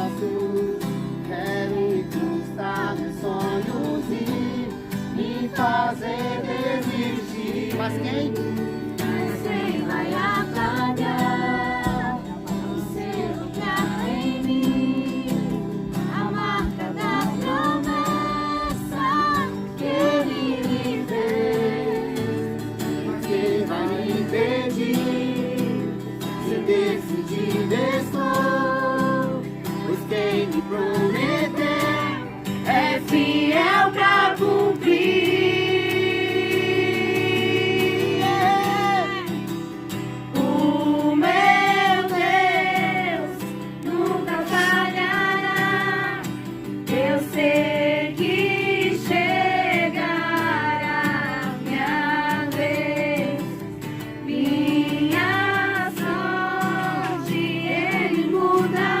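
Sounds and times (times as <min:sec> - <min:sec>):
group singing worship song: 0:00.0 - 0:59.0.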